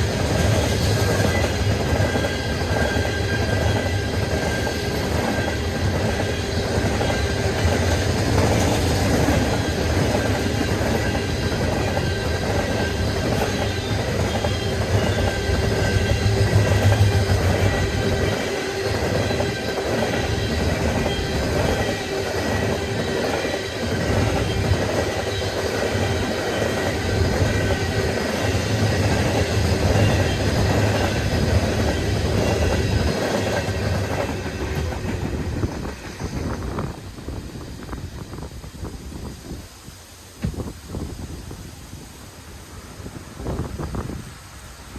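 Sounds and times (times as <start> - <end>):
freight train cars rumbling: 0.0 - 39.6.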